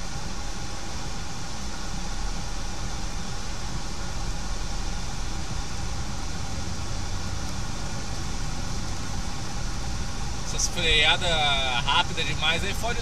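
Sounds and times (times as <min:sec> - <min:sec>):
engine and road rumble: 0:00.0 - 0:13.0
tyres hissing on wet road: 0:02.2 - 0:13.0.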